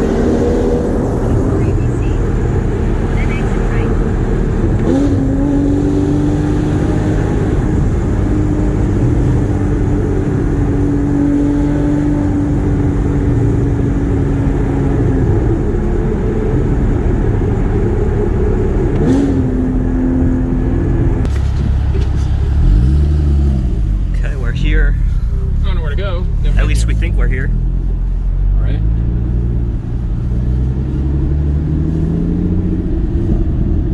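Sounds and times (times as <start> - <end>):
car engine cruising: 0.0 - 33.9
road and tyre rumble: 0.0 - 33.9.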